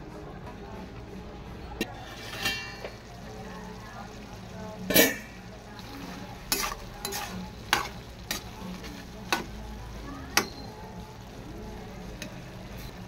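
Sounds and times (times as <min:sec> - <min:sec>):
food sizzling in pan: 0:01.8 - 0:13.0.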